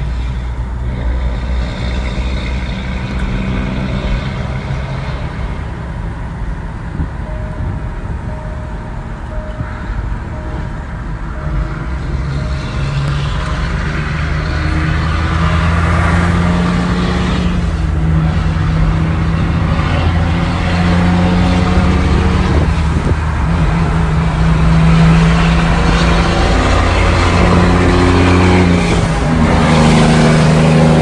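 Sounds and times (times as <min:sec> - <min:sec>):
truck diesel engine running: 0:00.0 - 0:31.0.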